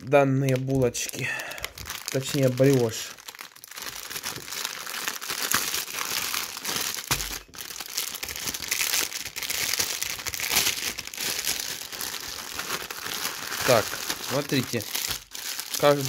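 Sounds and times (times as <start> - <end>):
plastic bag crinkling: 0.2 - 16.0.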